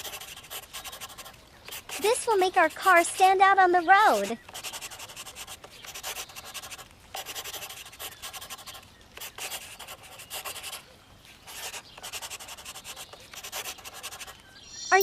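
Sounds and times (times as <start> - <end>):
marker pen on paper: 0.0 - 14.4.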